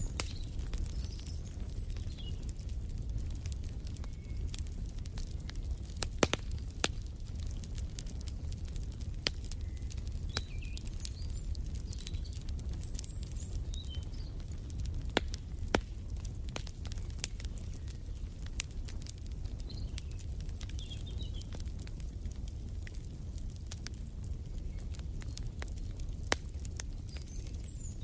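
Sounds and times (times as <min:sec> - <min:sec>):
small birds chirping: 0:00.0 - 0:22.0, 0:23.9 - 0:28.0
wood fire crackling: 0:00.0 - 0:28.0.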